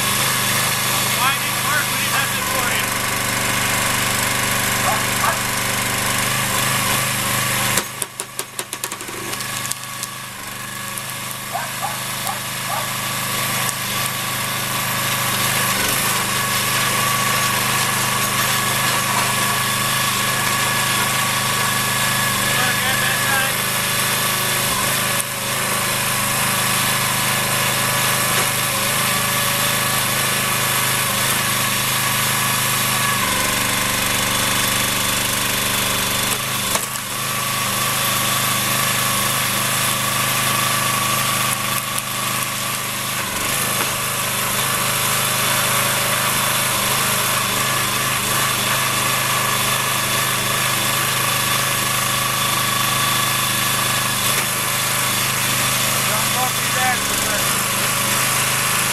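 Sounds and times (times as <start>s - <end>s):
log splitter engine running: 0.0s - 58.9s.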